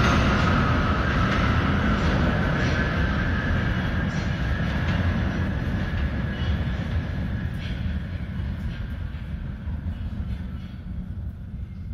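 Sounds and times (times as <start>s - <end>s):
subway train rumble and whine: 0.0s - 11.9s.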